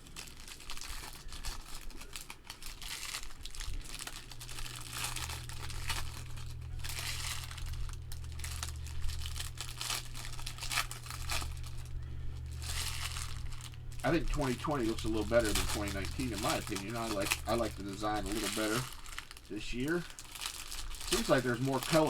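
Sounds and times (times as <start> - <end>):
plastic wrapping crinkling: 0.0 - 22.0
steady low hum: 3.2 - 22.0.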